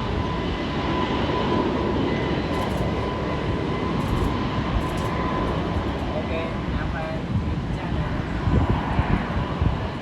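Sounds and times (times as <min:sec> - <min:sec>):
high jet engine whine: 0:00.0 - 0:10.0.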